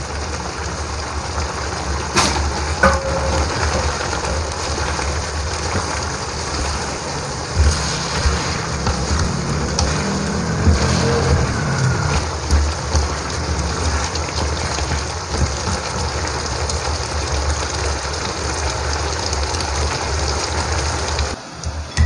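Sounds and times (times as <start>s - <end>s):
chicken sizzling in a wok: 0.0s - 21.4s.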